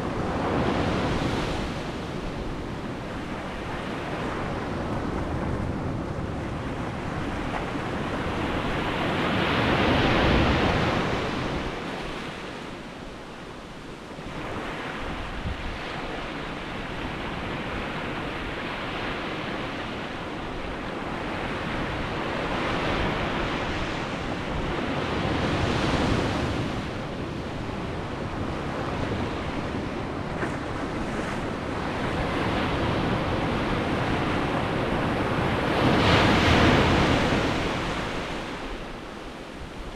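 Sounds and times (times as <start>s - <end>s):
wind buffeting microphone: 0.0s - 13.3s, 14.2s - 39.9s
sea waves breaking on shore: 0.0s - 39.9s.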